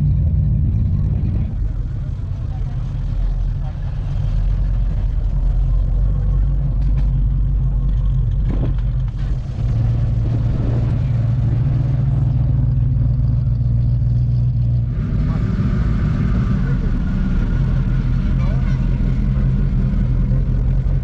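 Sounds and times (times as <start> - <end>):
car engine driving slowly past: 0.0 - 21.0.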